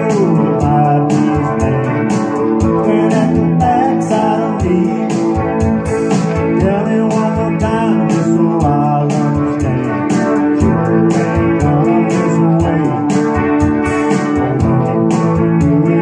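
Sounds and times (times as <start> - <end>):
country band playing: 0.0 - 16.0
electric guitar lead: 0.0 - 16.0.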